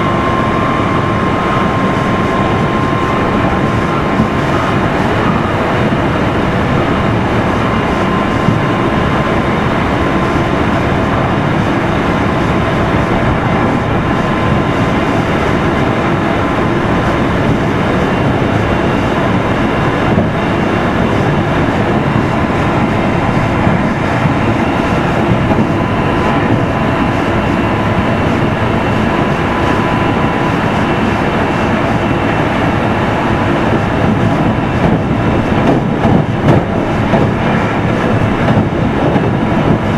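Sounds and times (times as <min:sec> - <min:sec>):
thin steady whine: 0:00.0 - 0:39.9
train wheels rumbling on rail: 0:00.0 - 0:39.9.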